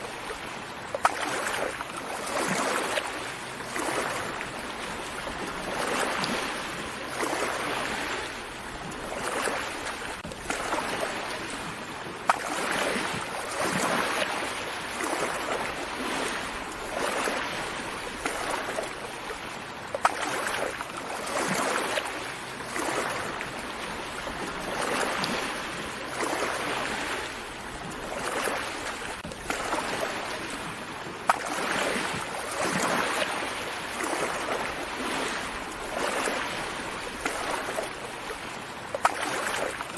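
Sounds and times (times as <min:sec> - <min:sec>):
small sea waves washing: 0:00.0 - 0:39.9.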